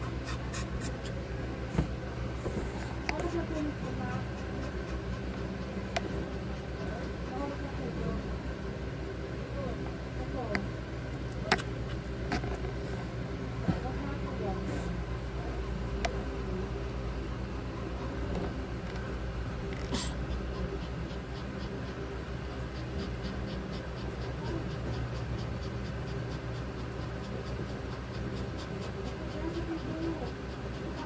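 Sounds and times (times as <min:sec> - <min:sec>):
dog panting: 0:00.0 - 0:31.0
steady low hum: 0:00.0 - 0:31.0.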